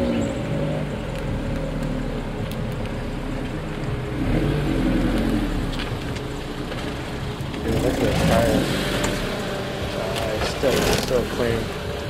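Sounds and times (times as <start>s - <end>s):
car engine passing: 0.0s - 12.0s.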